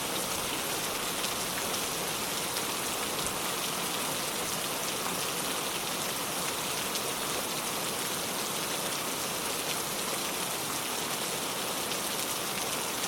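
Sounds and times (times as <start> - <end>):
raindrops pattering on surface: 0.0 - 13.0
steady rain hiss: 0.0 - 13.0.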